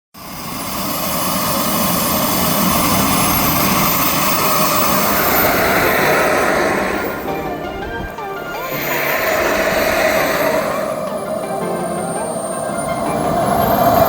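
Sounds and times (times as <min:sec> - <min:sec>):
jet turbine engine whine: 0:00.2 - 0:14.0.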